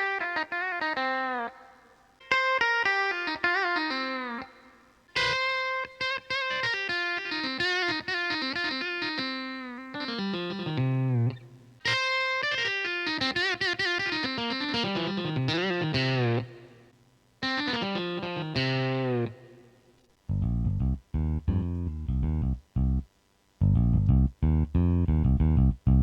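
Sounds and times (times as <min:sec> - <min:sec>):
keyboard electric guitar melody: 0:00.0 - 0:16.8, 0:17.4 - 0:19.6, 0:20.3 - 0:22.6.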